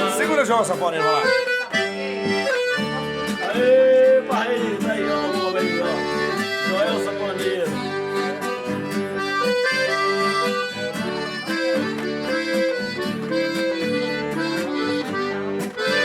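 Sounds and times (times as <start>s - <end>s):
accordion melody: 0.0s - 16.0s.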